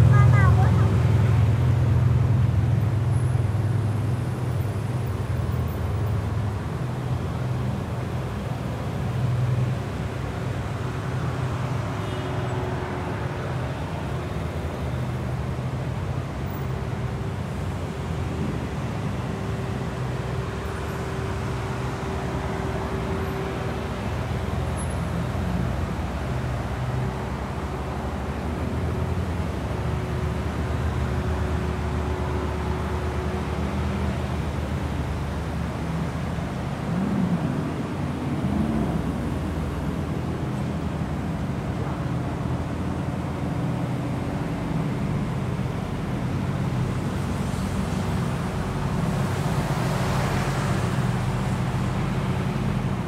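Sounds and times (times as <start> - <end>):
car engines idling: 0.0 - 53.0
traffic noise: 0.0 - 53.0.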